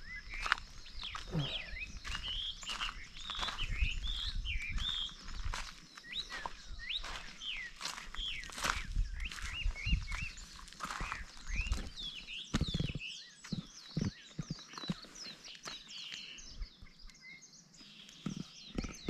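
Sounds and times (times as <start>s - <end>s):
small birds chirping: 0.0s - 19.0s
footsteps on loose rock: 0.3s - 16.4s.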